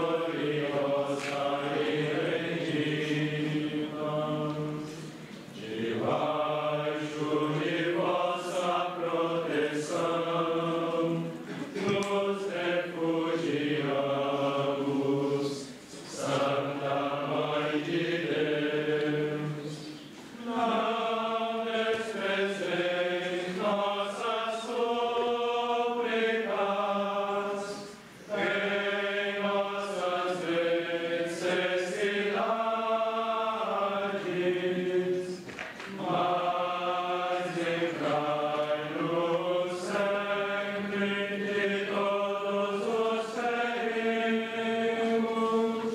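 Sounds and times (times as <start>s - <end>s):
voices singing a chant: 0.0s - 45.9s.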